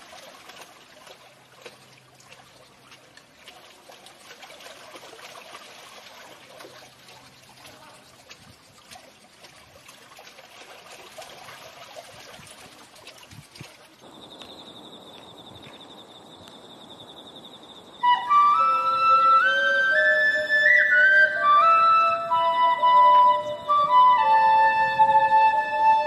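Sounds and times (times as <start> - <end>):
water trickling at waterwheel: 0.0 - 26.0.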